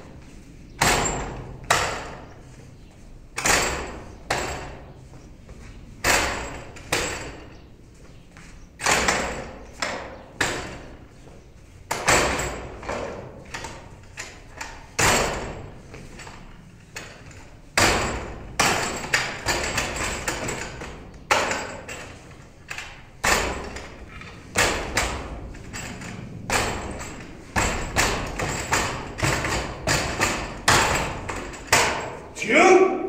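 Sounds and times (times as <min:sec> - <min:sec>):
strikes on wooden dummy: 0:00.7 - 0:02.5, 0:03.3 - 0:05.0, 0:06.0 - 0:07.7, 0:08.8 - 0:32.4.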